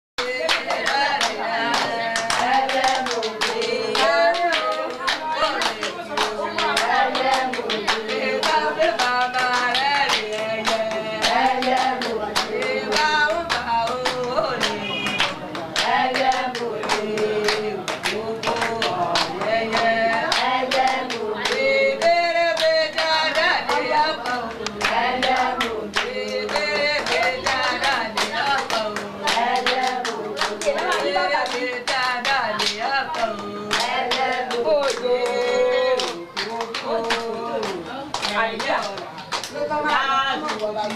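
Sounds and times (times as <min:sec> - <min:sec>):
people singing: 0:00.2 - 0:40.9
quick hand clapping: 0:00.2 - 0:40.9.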